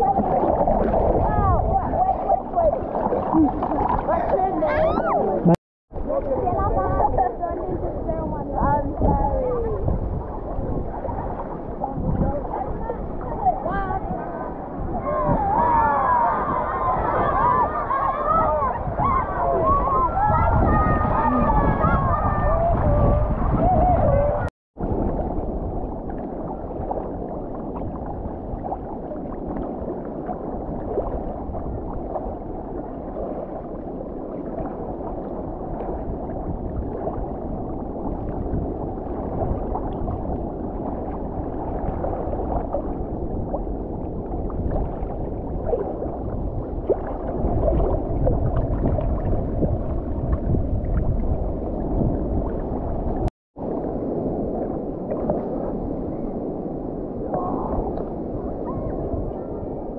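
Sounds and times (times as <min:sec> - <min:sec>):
muffled water sloshing and gurgling: 0:00.0 - 0:59.9.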